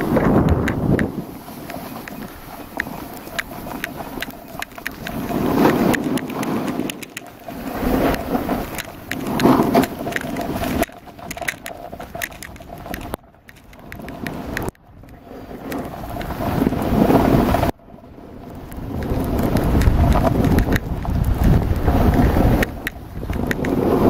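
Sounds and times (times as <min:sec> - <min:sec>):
faint crackles: 0:00.0 - 0:24.0
skis scraping over snow: 0:00.0 - 0:24.0.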